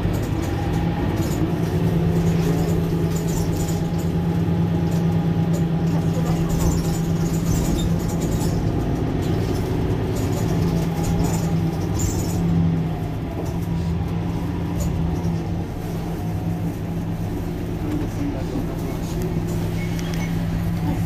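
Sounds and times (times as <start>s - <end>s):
bus engine idling: 0.0s - 21.0s.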